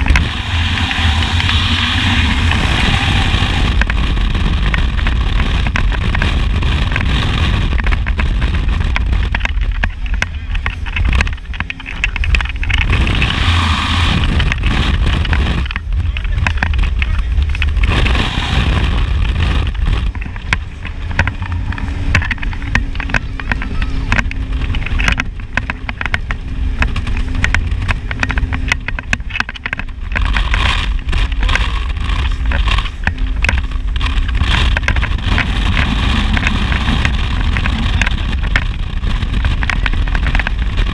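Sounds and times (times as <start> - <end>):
powerboat engine drone: 0.0 - 40.9
steady hum: 0.0 - 40.9
wind buffeting microphone: 0.0 - 40.9.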